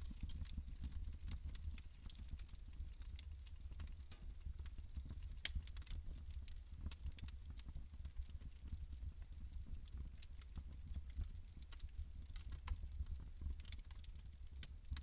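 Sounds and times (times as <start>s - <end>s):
logs crackling and popping: 0.0s - 15.0s
low rumble of fire: 0.0s - 15.0s.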